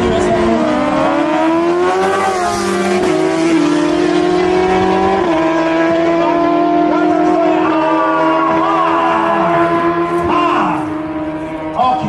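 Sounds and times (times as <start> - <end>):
motorcycle engines at high revs: 0.0 - 12.0.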